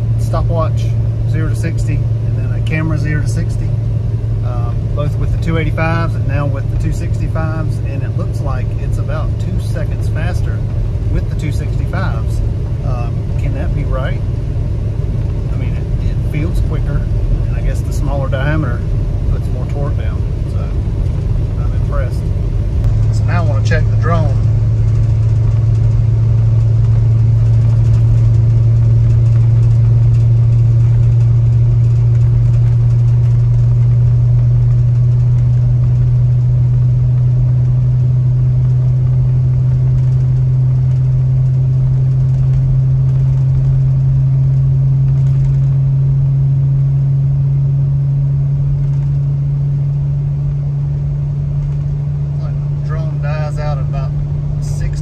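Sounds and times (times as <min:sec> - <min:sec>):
engine droning inside car cabin: 0:00.0 - 0:55.0.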